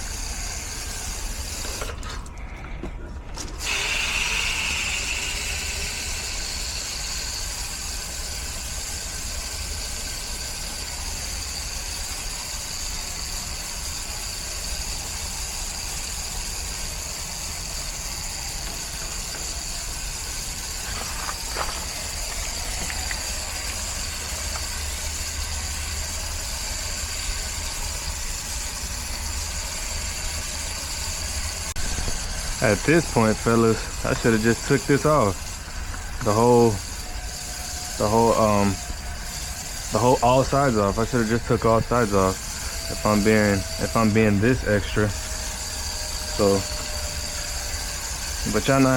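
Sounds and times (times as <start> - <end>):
water spraying on coil: 0.0 - 2.4, 3.6 - 48.9
motor hum: 0.0 - 48.9.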